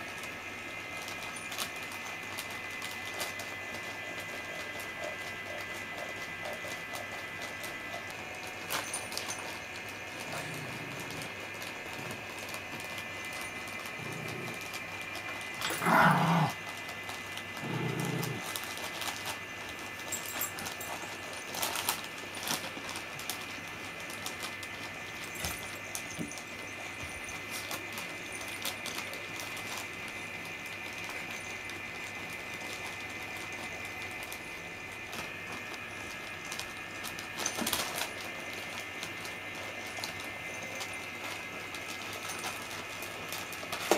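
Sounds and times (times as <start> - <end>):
plastic crinkling and rustling: 0.0 - 43.9.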